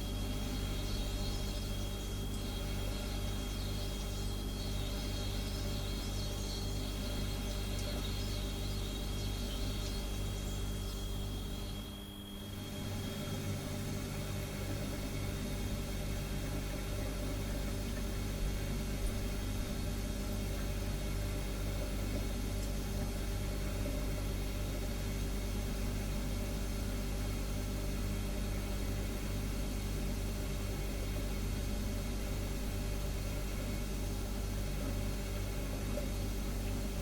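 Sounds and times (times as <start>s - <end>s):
refrigerator compressor humming: 0.0s - 37.0s.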